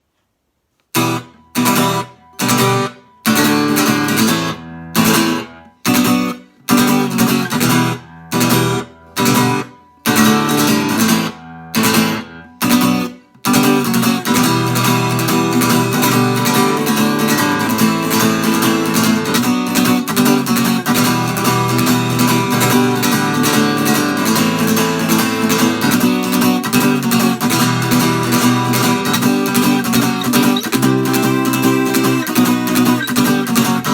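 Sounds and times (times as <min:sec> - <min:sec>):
acoustic guitar strumming: 0:00.9 - 0:33.9.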